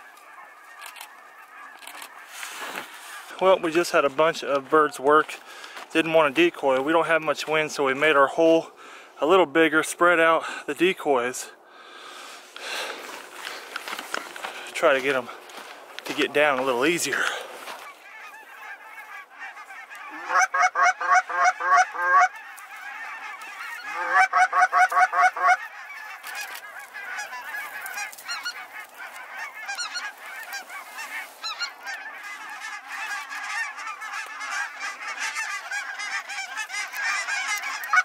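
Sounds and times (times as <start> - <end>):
flock of geese honking: 0.0 - 38.0.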